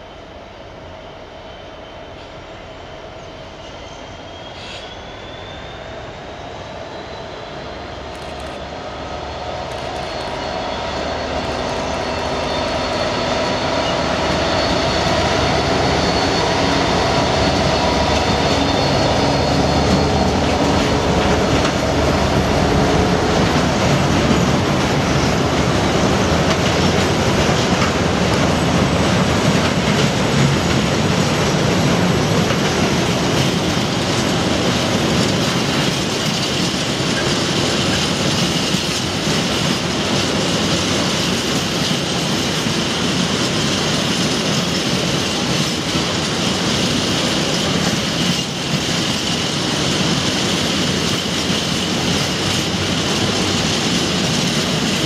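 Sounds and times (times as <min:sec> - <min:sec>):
diesel locomotive passing: 0:00.0 - 0:55.0
freight wagons rolling on rails: 0:09.7 - 0:55.0.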